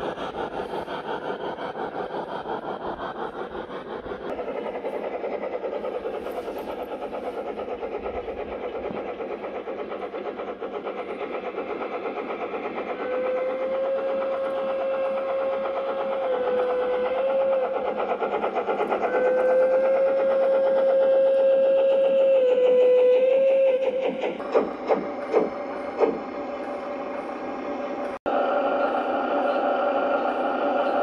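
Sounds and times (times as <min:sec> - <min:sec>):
model train wheels rattling: 0:00.0 - 0:28.2
model train whine: 0:00.0 - 0:31.0.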